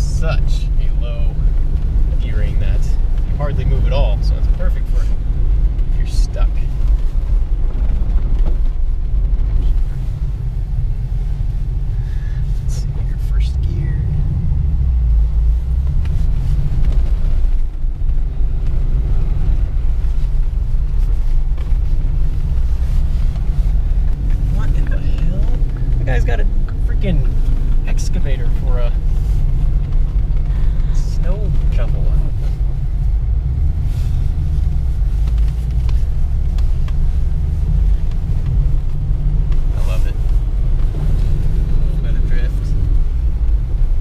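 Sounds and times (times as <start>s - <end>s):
car engine rumble inside cab: 0.0s - 44.0s.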